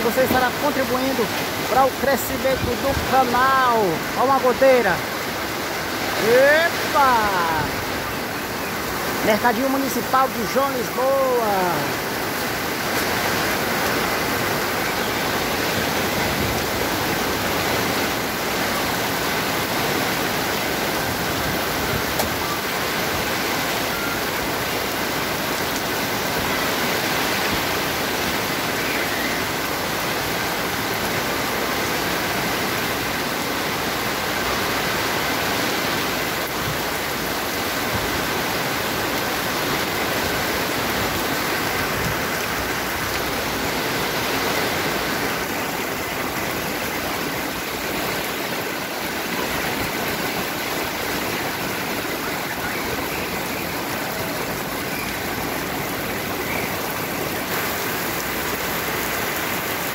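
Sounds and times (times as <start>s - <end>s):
heavy rain on wet street: 0.0s - 59.9s.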